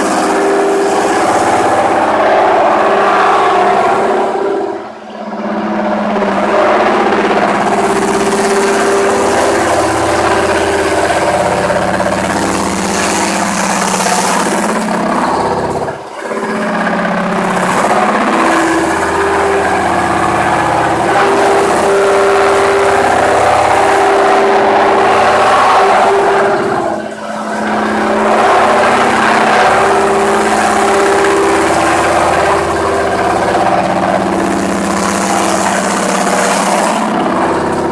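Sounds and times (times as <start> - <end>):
machine grinding stone: 0.0 - 37.9
motors humming: 0.0 - 37.9.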